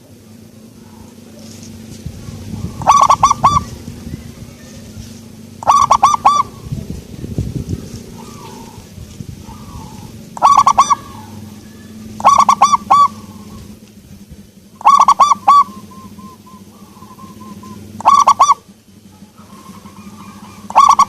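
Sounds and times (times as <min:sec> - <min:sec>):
dove cooing: 0:00.0 - 0:21.0
low steady hum: 0:00.0 - 0:21.0.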